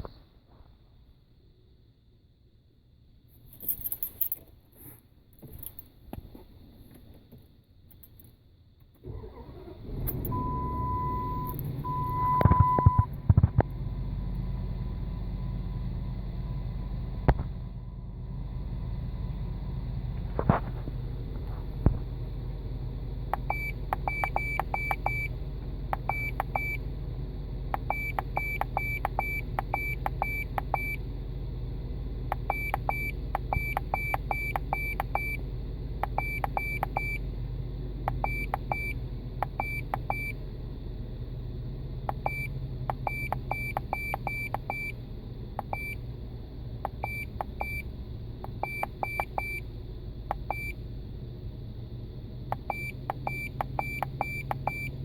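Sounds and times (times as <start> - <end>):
car engine idling: 9.0 - 55.0.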